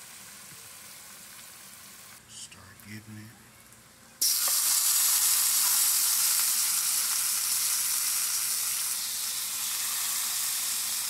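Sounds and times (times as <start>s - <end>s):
meat sizzling in skillet: 0.0s - 2.2s, 4.2s - 11.0s.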